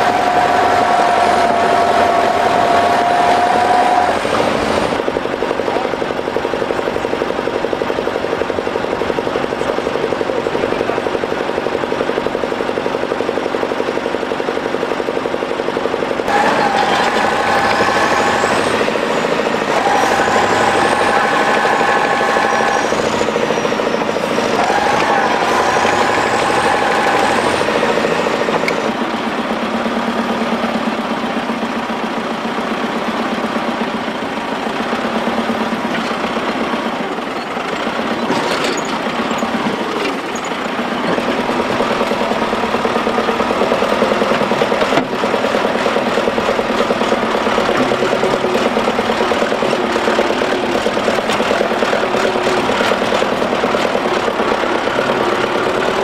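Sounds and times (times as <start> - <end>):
diesel engines running under load: 0.0 - 56.0.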